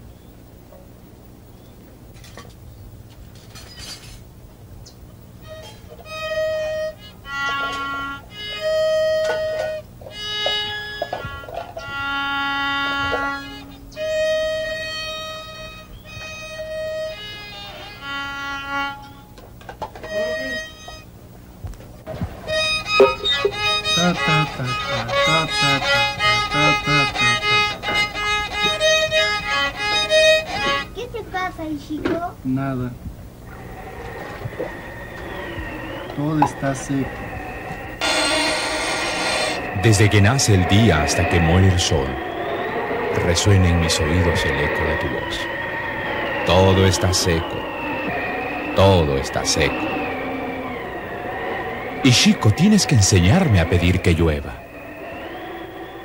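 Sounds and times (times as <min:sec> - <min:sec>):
violin long bowed notes: 0:05.4 - 0:21.1, 0:22.1 - 0:31.0, 0:33.5 - 0:56.0.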